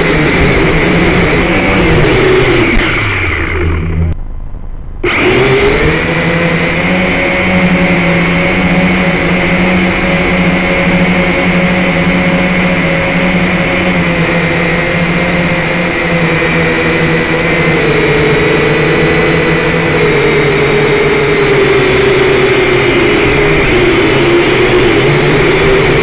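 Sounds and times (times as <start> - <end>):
toy drone motors whining: 0.0 - 4.2, 5.0 - 26.0.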